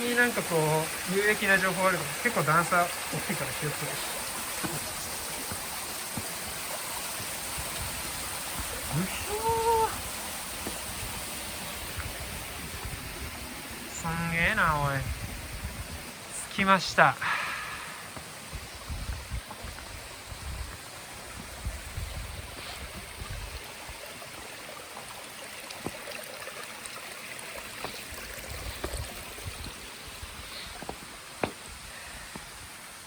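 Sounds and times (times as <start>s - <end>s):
stream water flowing: 0.0s - 33.0s.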